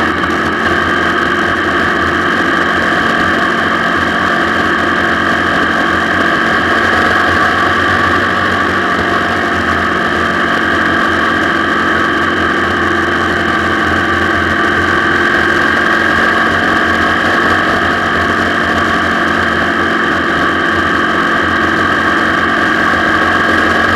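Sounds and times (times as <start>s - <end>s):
motorcycle engine running steadily: 0.0s - 23.9s.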